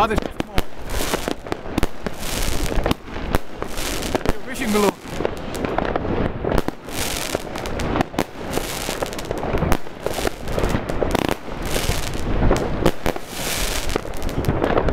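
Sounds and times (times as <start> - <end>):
crackling fizz of firework stars: 0.0 - 14.9.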